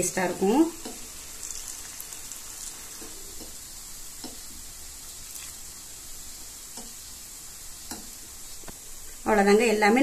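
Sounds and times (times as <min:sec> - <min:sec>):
ghee sizzling in a pan: 0:00.0 - 0:10.0.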